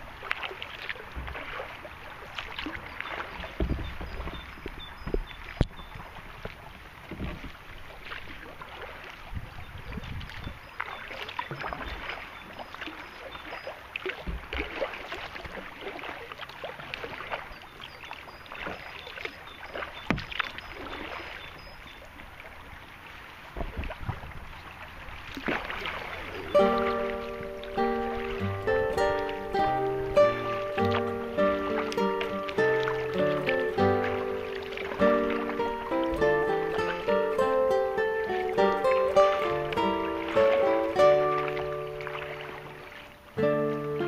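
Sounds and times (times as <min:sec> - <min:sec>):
paddle splashes and drips: 0:00.0 - 0:44.0.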